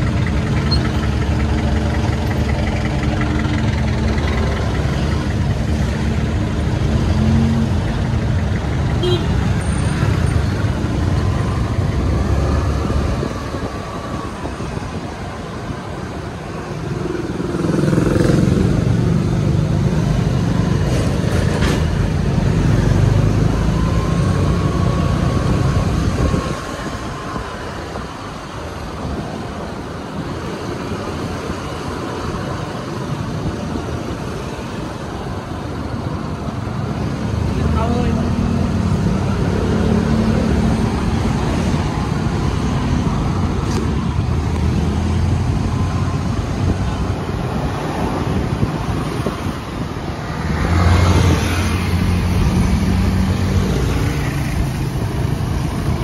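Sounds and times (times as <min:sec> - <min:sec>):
other vehicles passing: 0:00.0 - 0:56.0
scooter engine and road noise: 0:00.0 - 0:56.0.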